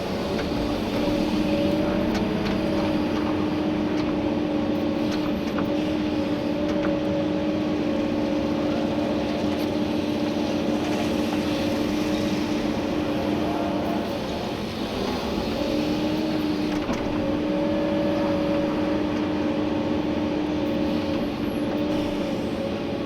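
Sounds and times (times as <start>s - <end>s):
excavator engine and hydraulics: 0.0s - 23.0s.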